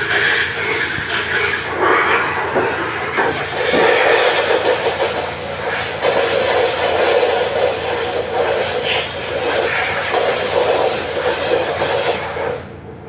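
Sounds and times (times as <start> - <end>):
fan unit rushing air: 0.0 - 13.0.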